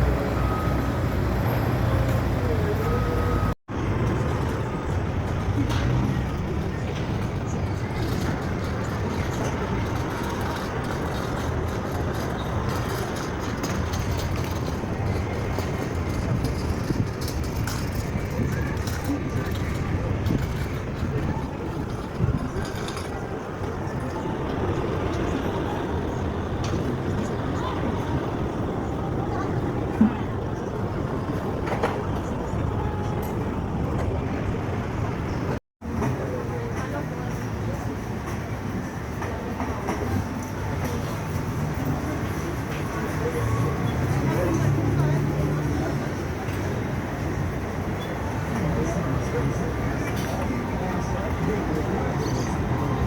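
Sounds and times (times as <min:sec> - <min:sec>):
background murmur: 0:00.0 - 0:53.0
engines passing: 0:00.0 - 0:53.0
traffic noise: 0:00.0 - 0:53.0.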